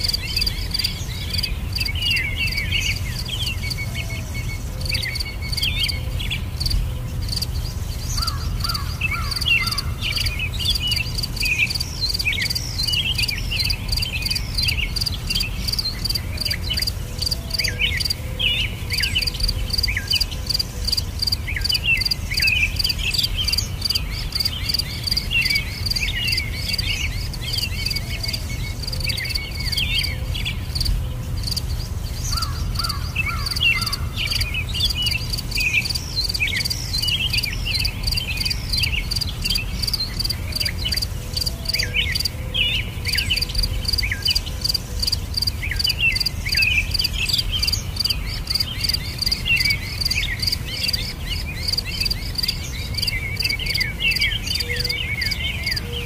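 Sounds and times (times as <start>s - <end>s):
insect chirping: 0.0s - 56.0s
songbirds chirping and twittering: 0.0s - 56.0s.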